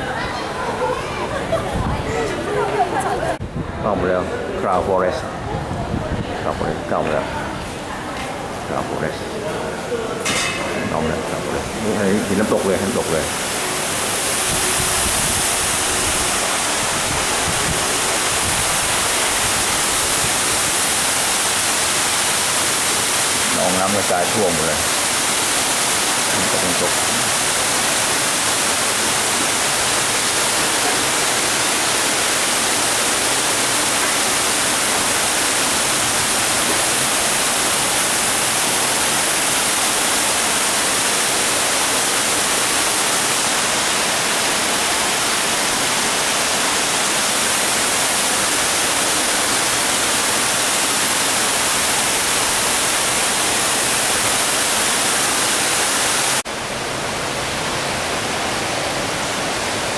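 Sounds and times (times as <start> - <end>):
indoor waterfall rushing: 0.0 - 59.9.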